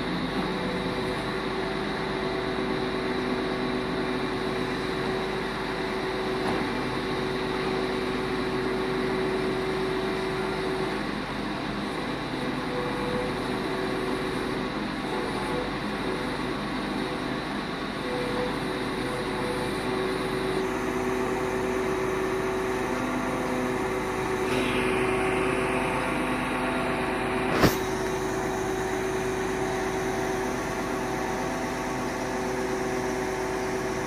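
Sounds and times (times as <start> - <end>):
crane engine and hydraulics: 0.0 - 34.0
steady whine: 0.0 - 34.0.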